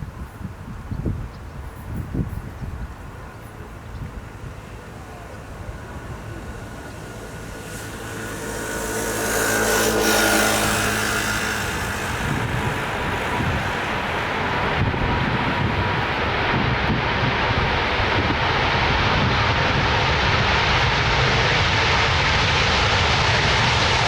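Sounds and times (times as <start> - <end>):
jet engines passing: 2.1 - 24.0.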